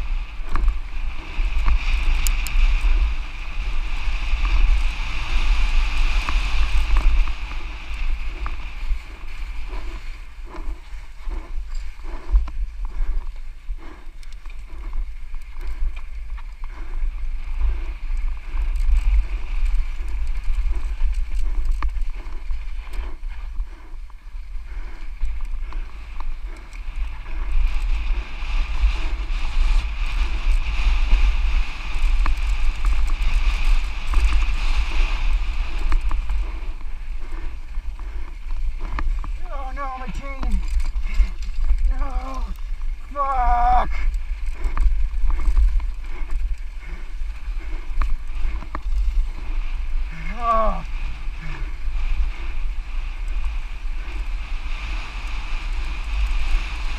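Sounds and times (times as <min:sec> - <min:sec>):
mountain bike rattling on dirt trail: 0:00.0 - 0:56.9
wind buffeting microphone: 0:00.0 - 0:56.9.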